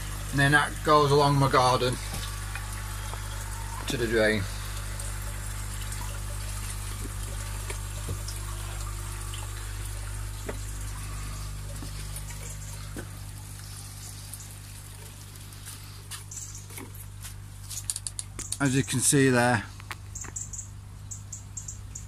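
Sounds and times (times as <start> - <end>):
steady low hum: 0.0 - 22.0
water trickling through pipe: 0.0 - 22.0.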